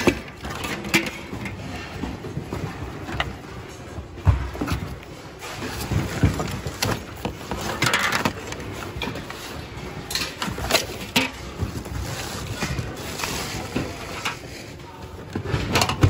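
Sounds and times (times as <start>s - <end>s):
plastic items clattering: 0.0s - 16.0s.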